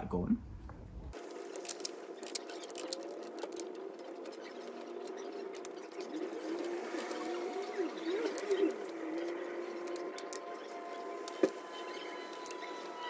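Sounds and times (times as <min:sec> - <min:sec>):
wavering low tone: 0:01.5 - 0:13.0.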